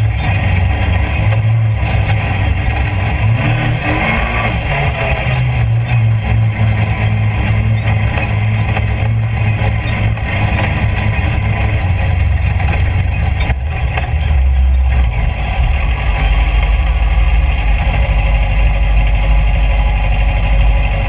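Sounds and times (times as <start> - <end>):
motorcycle engine running: 0.0 - 21.0
steady rushing noise: 0.0 - 21.0.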